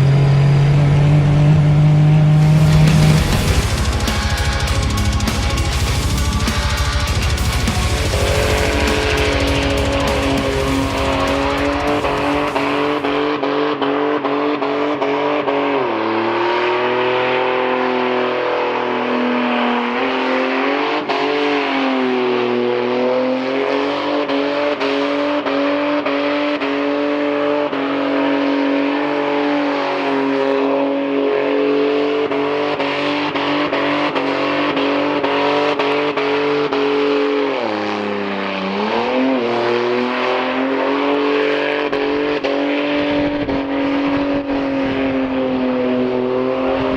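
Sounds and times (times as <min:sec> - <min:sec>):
car engine at high revs: 0:00.0 - 0:46.9.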